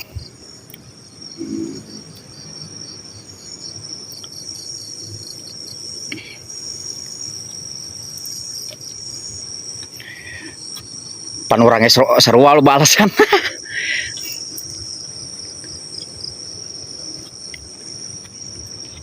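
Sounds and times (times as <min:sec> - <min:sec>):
crickets and insects trilling: 0:00.0 - 0:19.0.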